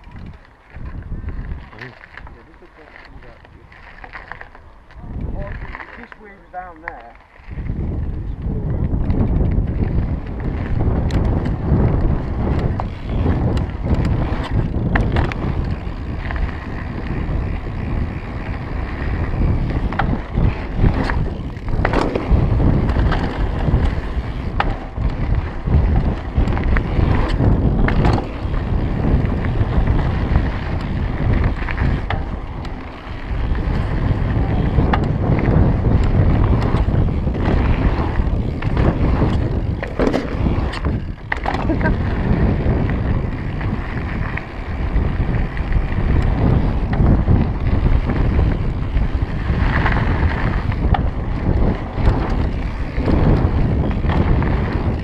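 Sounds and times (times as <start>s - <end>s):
bike clicking and rattling: 0.0s - 55.0s
bike tyres crunching on gravel: 0.0s - 55.0s
wind buffeting microphone: 0.0s - 55.0s.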